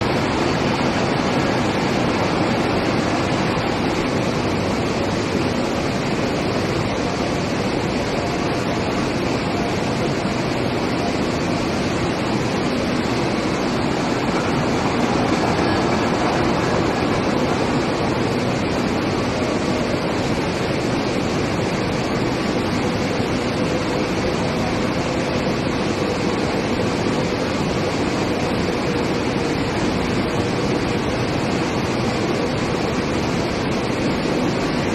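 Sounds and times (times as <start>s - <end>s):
industrial rushing din: 0.0s - 32.3s.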